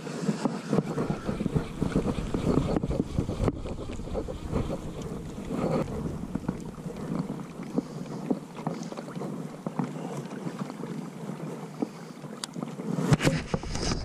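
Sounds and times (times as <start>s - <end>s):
waves lapping against kayak hull: 0.0s - 14.0s.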